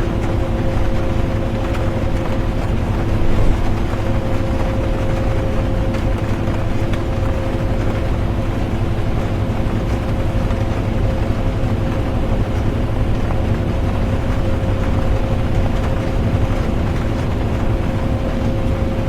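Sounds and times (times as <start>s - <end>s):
bus engine drone: 0.0s - 19.0s
constant whine: 0.0s - 19.0s.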